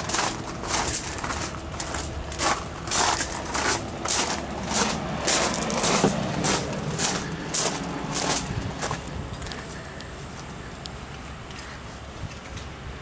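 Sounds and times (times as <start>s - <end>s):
footsteps crunching on gravel: 0.0s - 10.5s.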